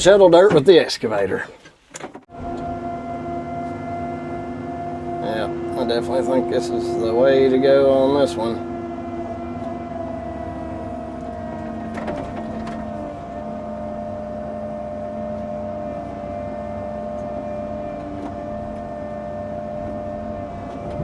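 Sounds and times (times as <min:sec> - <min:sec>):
excavator engine running: 0:02.3 - 0:21.0
steady mechanical whine: 0:02.3 - 0:21.0.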